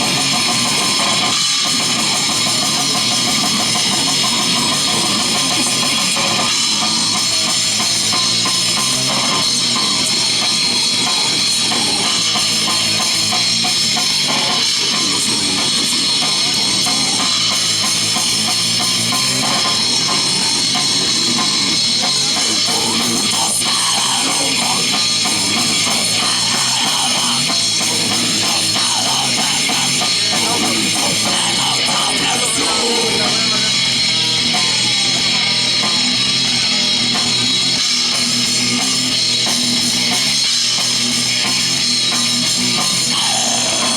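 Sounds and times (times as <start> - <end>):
bass guitar: 0.0 - 43.9
drum kit: 0.0 - 43.9
electric guitar: 0.0 - 43.9.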